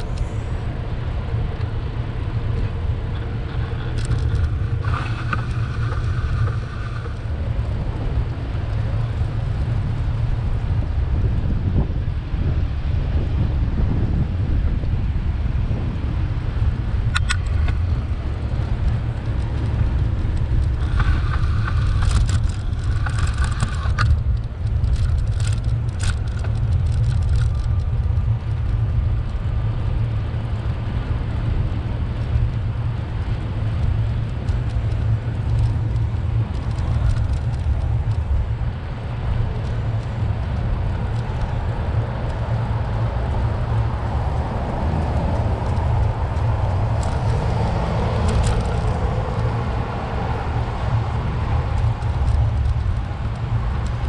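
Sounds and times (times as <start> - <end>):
car traffic: 0.0 - 54.0
wind rumble on microphone: 0.0 - 54.0.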